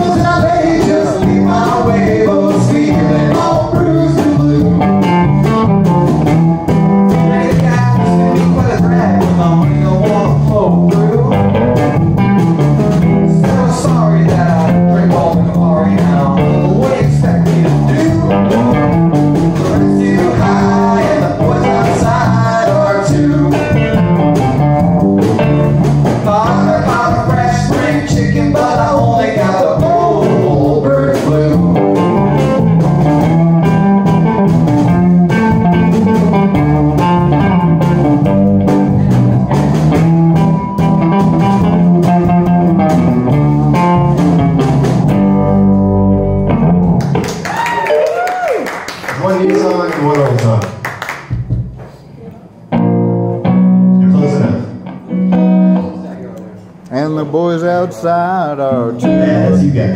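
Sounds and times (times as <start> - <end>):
bass line: 0.0 - 48.6, 52.5 - 59.9
electric guitars: 0.0 - 50.4, 52.4 - 59.9
drum kit: 0.0 - 55.9.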